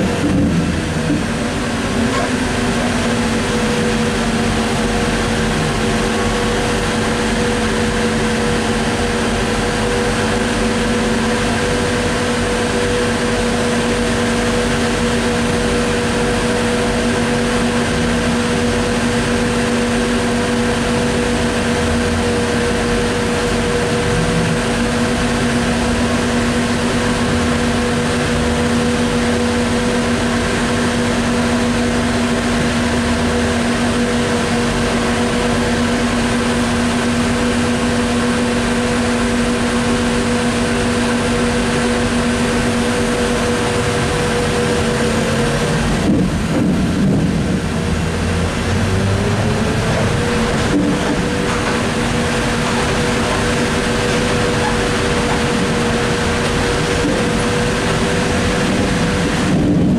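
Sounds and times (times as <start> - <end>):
ride rumble: 0.0 - 59.9
trolleybus electric hum: 0.0 - 59.9.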